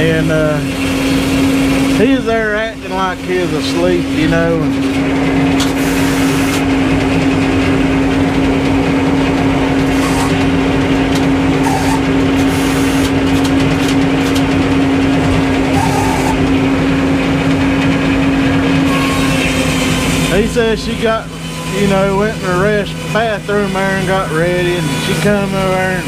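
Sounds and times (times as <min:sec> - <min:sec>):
sawmill engine humming: 0:00.0 - 0:26.0.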